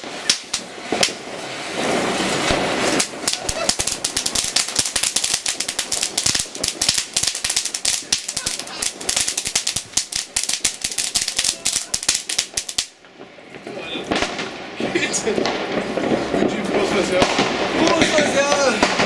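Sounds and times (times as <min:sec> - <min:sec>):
firework crackling and popping: 0:00.0 - 0:19.0
ground firework hissing: 0:00.0 - 0:19.0.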